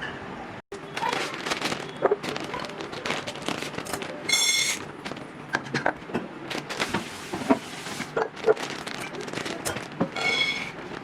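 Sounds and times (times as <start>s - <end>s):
kitchen items clattering: 0.9s - 11.0s.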